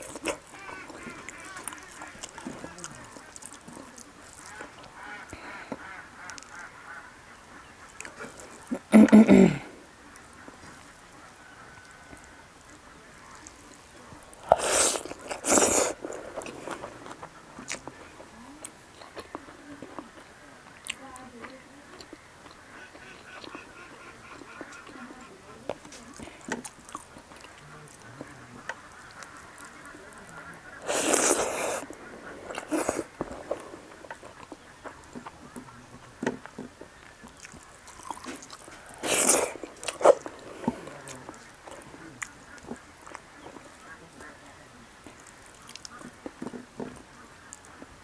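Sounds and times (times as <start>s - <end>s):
quiet chewing: 0.0s - 48.0s.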